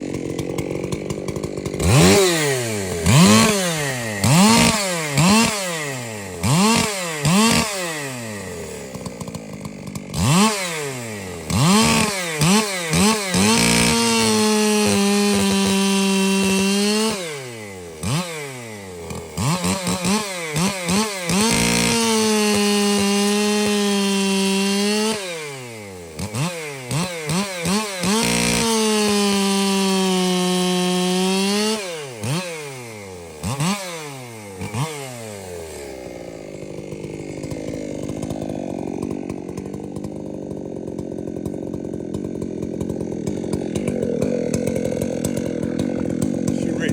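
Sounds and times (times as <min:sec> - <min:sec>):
chainsaw at full throttle cutting: 0:00.0 - 0:46.9.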